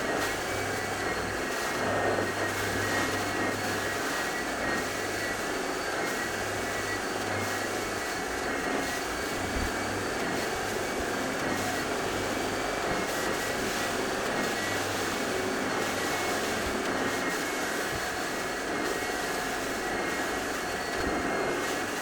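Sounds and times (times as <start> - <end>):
carpet vacuum machine running: 0.0 - 22.0.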